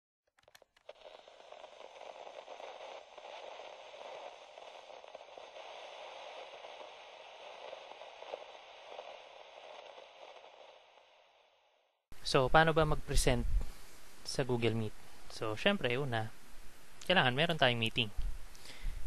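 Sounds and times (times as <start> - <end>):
crackling static hiss: 0.4 - 19.0.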